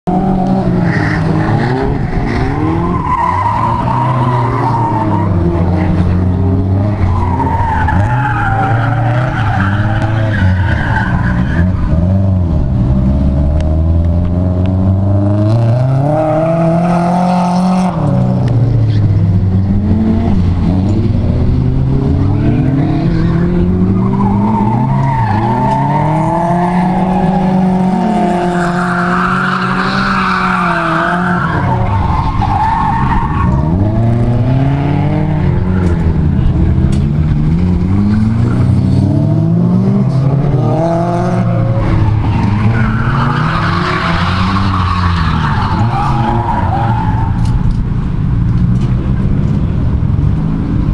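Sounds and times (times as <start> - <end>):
car engine revving: 0.0 - 50.9
tires squealing: 0.1 - 12.8, 15.1 - 48.1.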